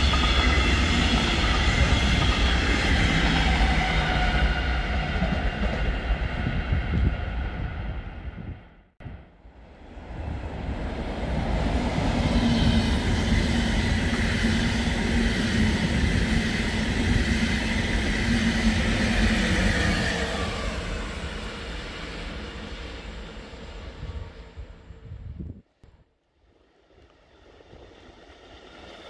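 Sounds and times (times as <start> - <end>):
train passing at speed: 0.0 - 25.6, 26.4 - 29.0.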